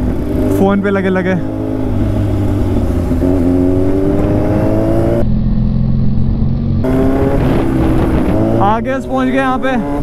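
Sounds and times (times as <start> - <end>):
motorcycle engine accelerating: 0.0 - 10.0
low rumble: 1.4 - 9.6.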